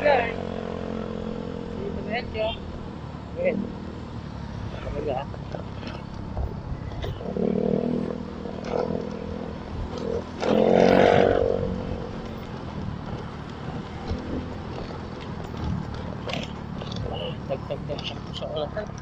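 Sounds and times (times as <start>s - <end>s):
motorcycle engine: 0.0s - 19.0s
other vehicles' engines: 0.0s - 19.0s.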